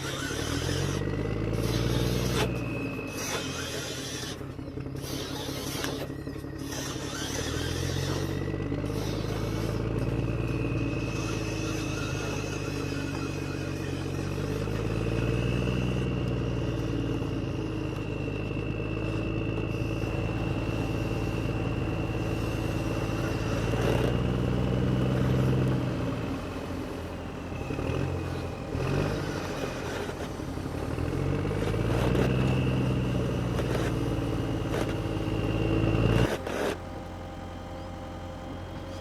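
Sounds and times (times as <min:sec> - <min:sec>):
model excavator motor hum: 0:00.0 - 0:39.0.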